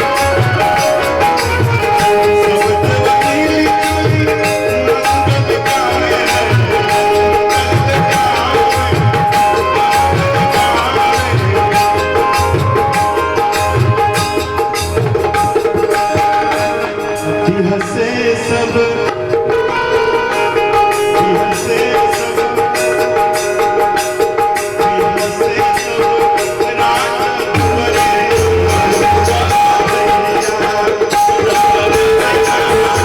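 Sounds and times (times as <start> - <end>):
tabla playing quick rhythm: 0.0 - 33.0.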